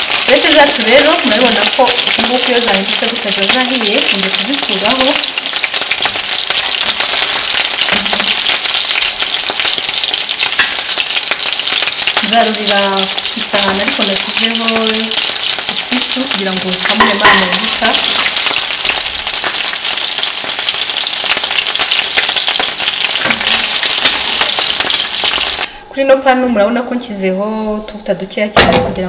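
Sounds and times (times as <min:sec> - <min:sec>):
meatballs sizzling in oil: 0:00.0 - 0:25.7.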